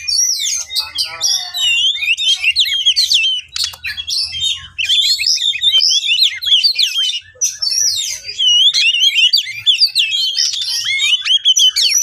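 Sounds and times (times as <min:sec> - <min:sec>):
bird singing varied whistles: 0:00.0 - 0:12.0.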